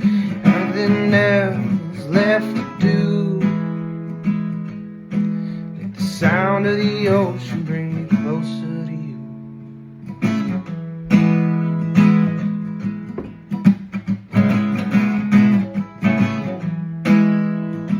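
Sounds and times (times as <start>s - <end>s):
acoustic guitar strumming chords: 0.0s - 17.9s.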